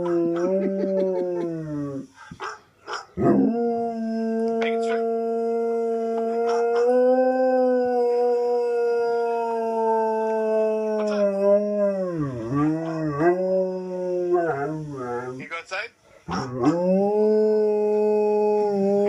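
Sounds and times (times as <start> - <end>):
dog howling: 0.0 - 2.0, 3.2 - 15.4, 16.3 - 19.0.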